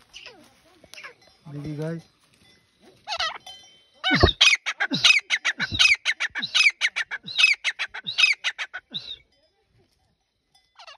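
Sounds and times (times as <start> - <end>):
francolin calling: 0.0 - 9.4.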